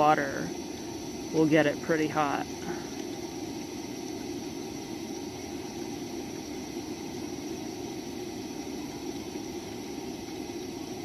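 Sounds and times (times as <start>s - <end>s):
water flowing: 0.0s - 11.0s
water heater burner rushing: 0.0s - 11.0s.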